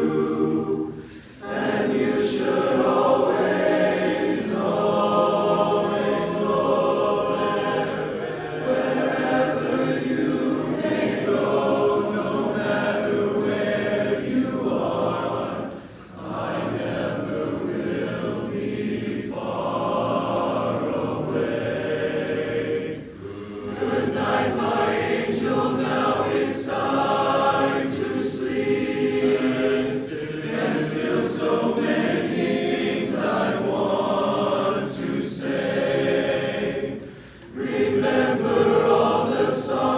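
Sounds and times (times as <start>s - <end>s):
men's chorus singing in harmony: 0.0s - 39.9s.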